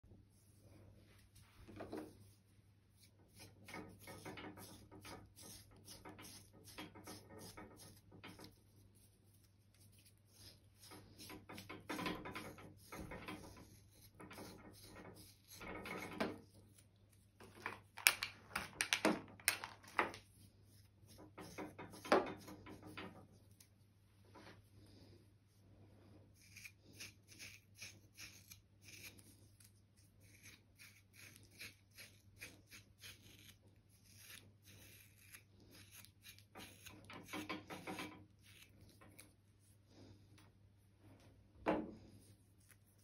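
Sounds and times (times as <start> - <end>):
stripping knife scraping fur: 0.2 - 17.6, 20.1 - 23.7, 26.2 - 39.8, 42.1 - 43.0.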